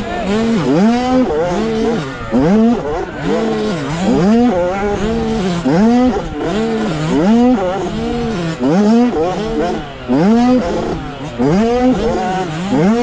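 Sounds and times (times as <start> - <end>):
two-stroke motocross engine revving: 0.0 - 13.0.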